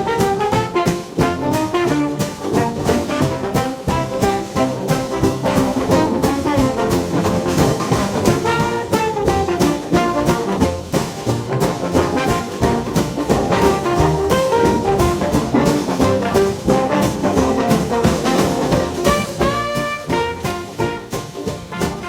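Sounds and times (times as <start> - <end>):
instrumental music with steady beat: 0.0 - 22.0.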